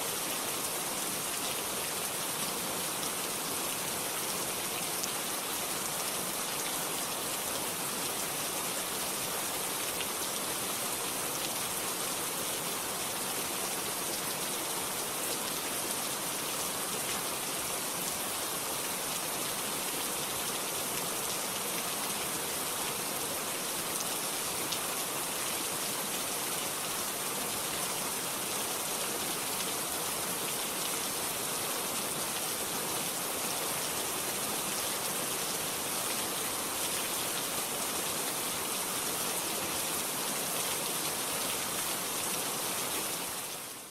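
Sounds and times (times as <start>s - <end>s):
rain falling: 0.0s - 43.9s.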